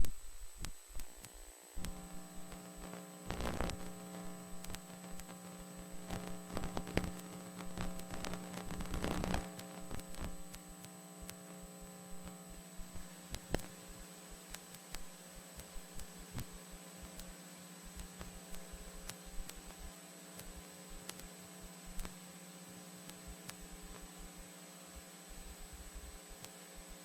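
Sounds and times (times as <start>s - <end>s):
static clicks and crackles: 0.0s - 27.0s
tape playback hum: 0.0s - 27.0s.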